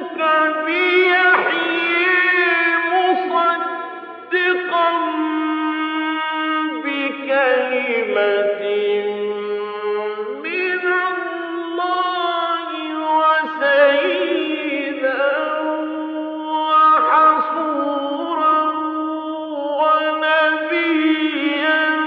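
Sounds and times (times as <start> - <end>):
man chanting melodic recitation: 0.0 - 22.0.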